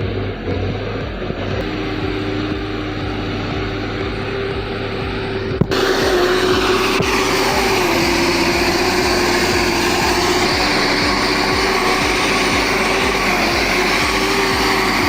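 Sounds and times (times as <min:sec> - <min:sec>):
constant whine: 0:00.0 - 0:15.0
engine running hard: 0:00.0 - 0:15.0.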